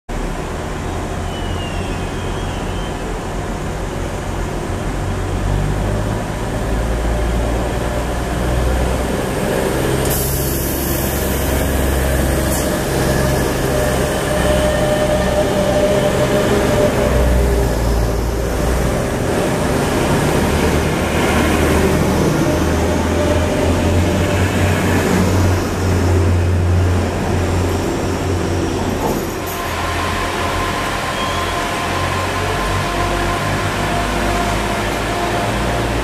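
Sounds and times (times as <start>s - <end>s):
train accelerating with low drone: 0.1s - 36.0s.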